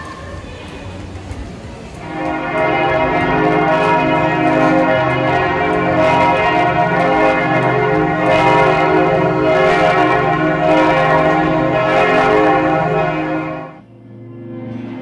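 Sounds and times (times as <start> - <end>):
church bells ringing: 1.8 - 15.0.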